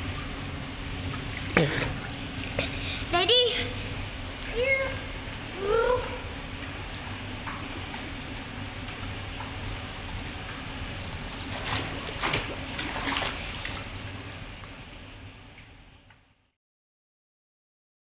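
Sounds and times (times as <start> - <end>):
pool water sloshing: 0.0 - 4.0, 5.1 - 15.8.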